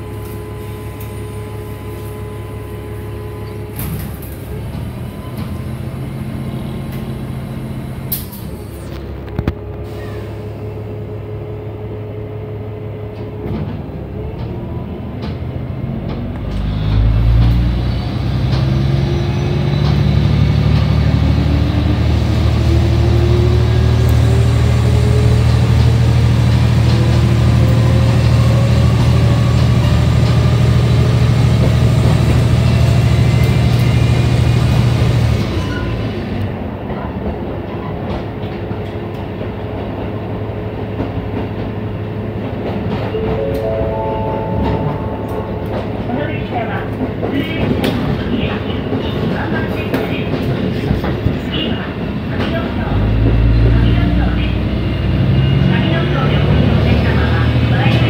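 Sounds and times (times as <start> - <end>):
rail noise: 0.0 - 58.0
railcar diesel engine droning: 0.0 - 58.0.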